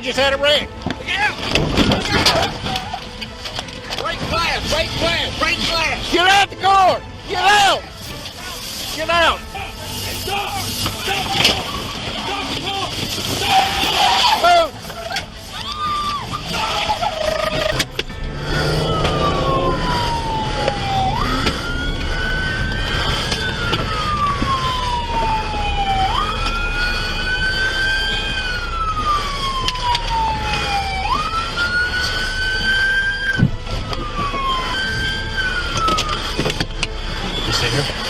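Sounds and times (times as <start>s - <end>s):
emergency vehicle siren wailing: 0.0s - 38.0s
low road and engine rumble: 0.0s - 38.0s.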